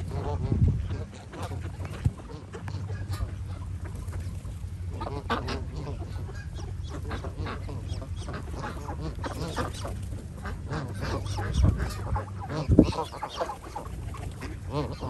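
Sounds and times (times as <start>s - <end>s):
ducks quacking: 0.0s - 15.0s
geese honking: 0.0s - 15.0s.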